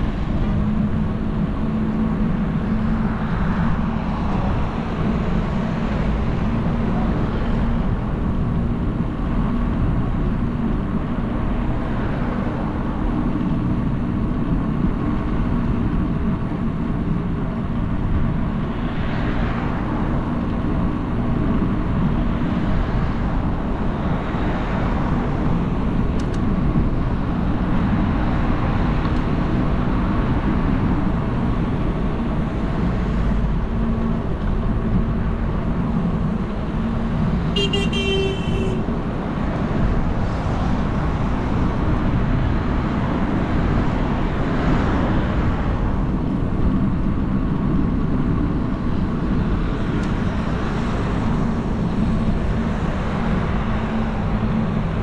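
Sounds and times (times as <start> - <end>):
traffic rumble: 0.0 - 55.0
vehicles passing: 0.0 - 55.0.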